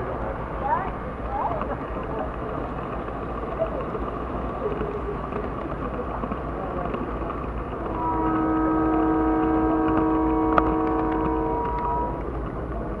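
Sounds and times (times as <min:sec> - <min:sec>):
faint voices: 0:00.0 - 0:13.0
model train rumbling on track: 0:00.0 - 0:13.0.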